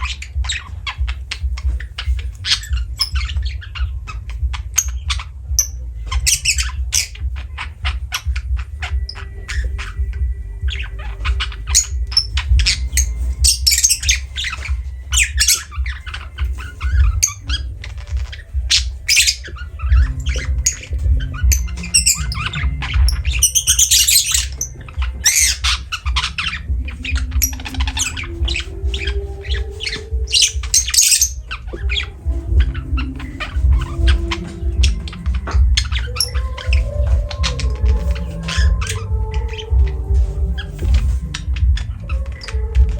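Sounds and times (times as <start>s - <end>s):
lovebirds squawking and chirping: 0.0s - 42.9s
steady low rumble: 0.0s - 42.9s.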